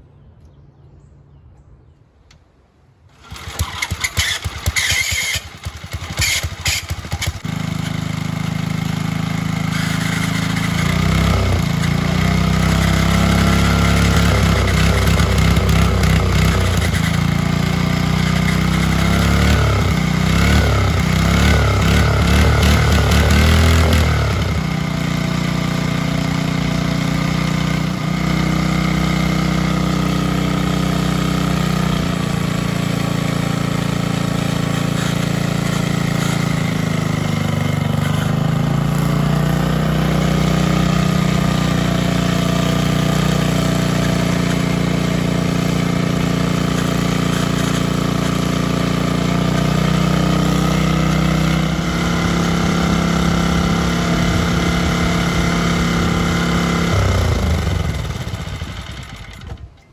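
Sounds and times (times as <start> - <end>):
single-cylinder engine running: 3.1 - 59.9.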